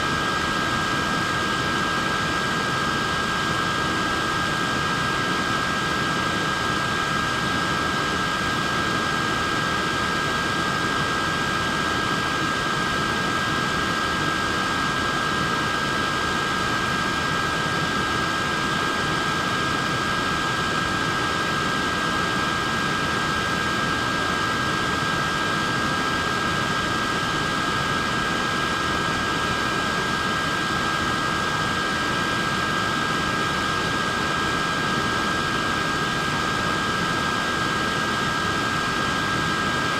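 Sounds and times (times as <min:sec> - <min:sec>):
fan running with whine: 0:00.0 - 0:39.9.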